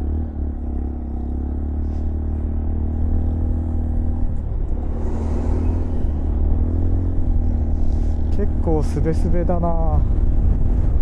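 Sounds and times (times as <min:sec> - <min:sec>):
low wind rumble: 0:00.0 - 0:11.0
motorcycle engine running: 0:00.0 - 0:11.0.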